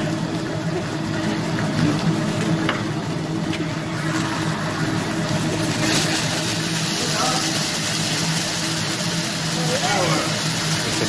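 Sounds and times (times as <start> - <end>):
low mechanical hum: 0.0 - 11.0
vegetables sizzling on griddle: 0.0 - 11.0.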